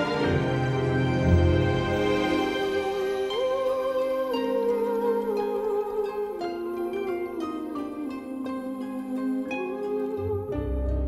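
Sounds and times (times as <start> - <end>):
music with sustained notes: 0.0 - 11.0.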